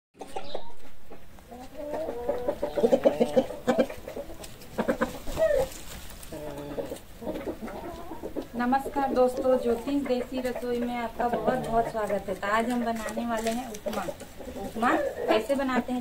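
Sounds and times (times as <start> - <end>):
chickens clucking: 0.2 - 16.0.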